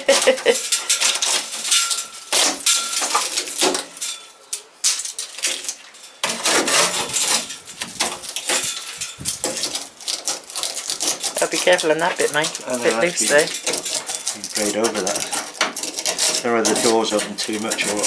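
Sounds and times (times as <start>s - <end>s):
metal parts and tools clanking: 0.0s - 18.0s.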